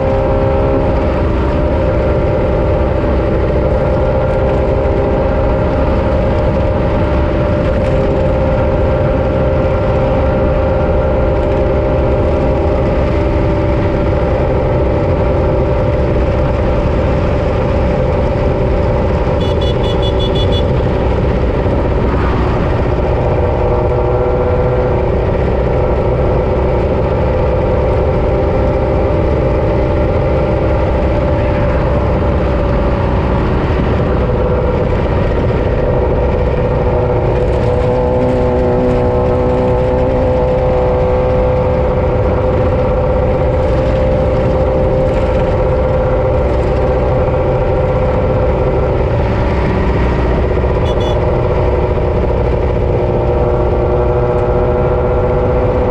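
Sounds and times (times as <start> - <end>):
race vehicle engine running hard: 0.0 - 55.9.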